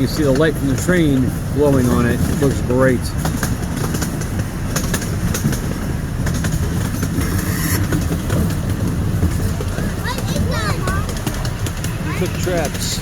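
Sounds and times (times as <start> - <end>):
train rumbling on track: 0.0 - 13.0
wheels clicking on rail joints: 0.0 - 13.0.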